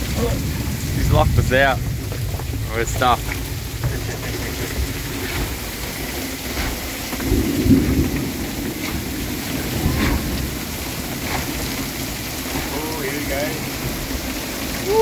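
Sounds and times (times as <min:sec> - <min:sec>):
heavy rain pouring on water: 0:00.0 - 0:15.0
low rumble: 0:00.0 - 0:15.0
runoff streaming off roof: 0:00.0 - 0:15.0.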